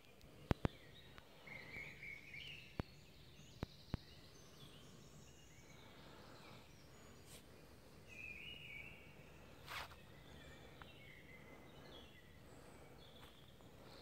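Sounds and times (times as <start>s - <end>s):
faint birdsong chirping: 0.0s - 14.0s.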